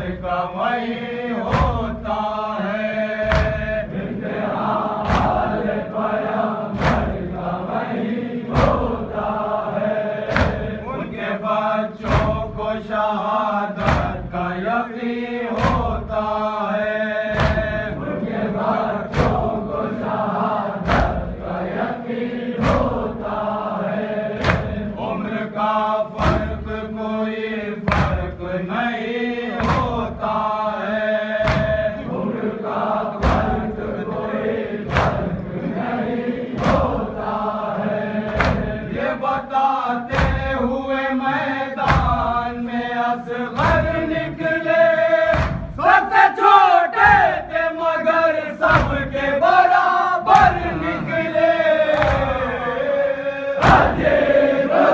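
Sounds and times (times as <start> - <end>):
voices chanting a lament: 0.0 - 54.9.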